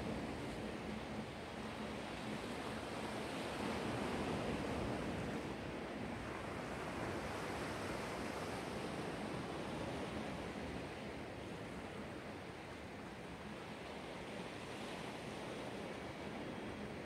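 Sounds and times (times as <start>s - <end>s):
waves washing ashore: 0.0s - 17.0s.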